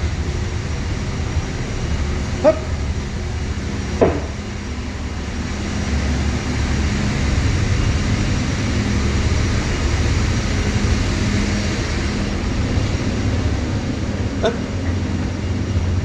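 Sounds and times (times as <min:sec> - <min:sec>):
ship machinery rumble and hum: 0:00.0 - 0:16.0.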